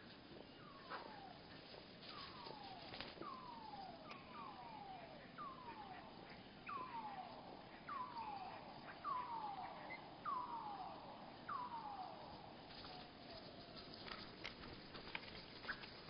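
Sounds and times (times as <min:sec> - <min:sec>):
slowed bird call: 0:00.0 - 0:15.9.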